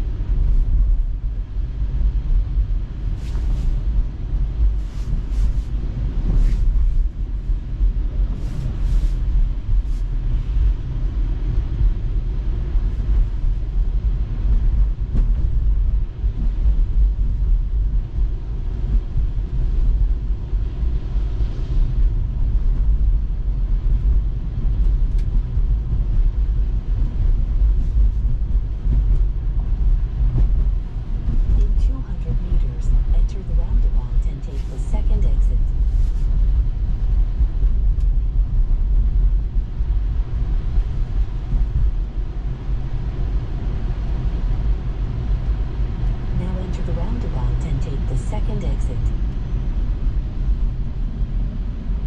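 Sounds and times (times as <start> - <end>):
road and tyre rumble: 0.0 - 48.1, 48.9 - 52.0.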